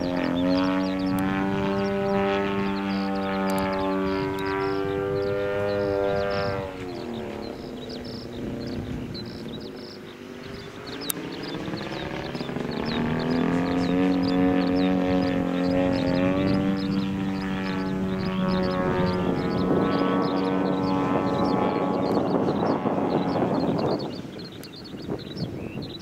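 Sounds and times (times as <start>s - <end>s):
model airplane motor humming: 0.0s - 26.0s.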